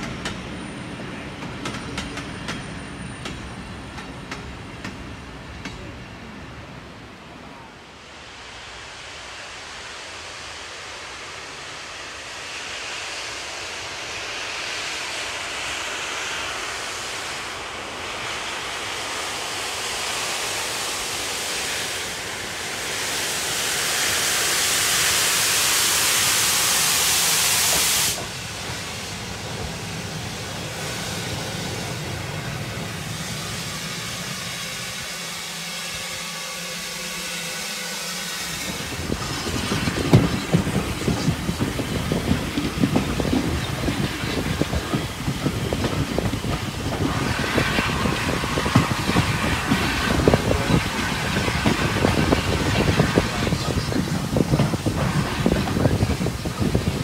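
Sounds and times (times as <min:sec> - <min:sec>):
steam hissing: 0:00.0 - 0:57.0
train rumbling by: 0:00.0 - 0:57.0.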